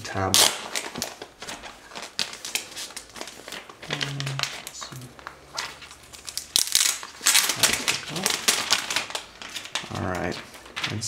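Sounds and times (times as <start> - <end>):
plastic film crackling: 0.0 - 11.0.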